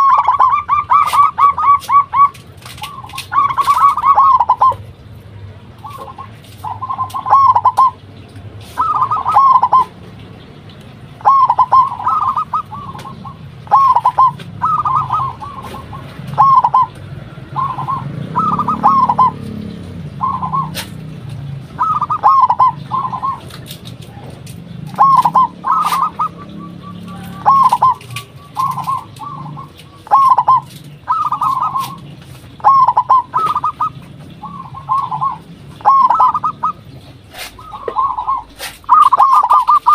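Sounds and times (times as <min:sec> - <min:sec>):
dove cooing: 0:00.0 - 0:10.1, 0:11.1 - 0:39.9.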